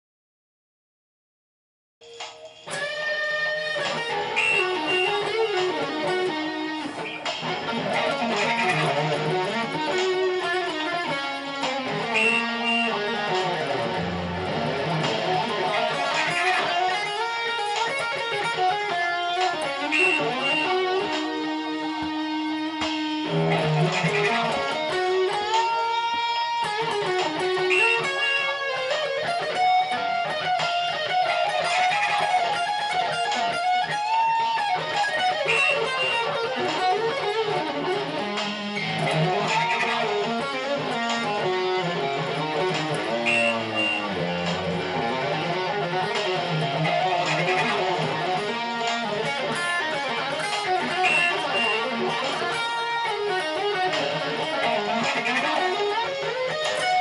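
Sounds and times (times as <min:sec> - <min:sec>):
electric guitar solo: 0:02.2 - 0:57.0.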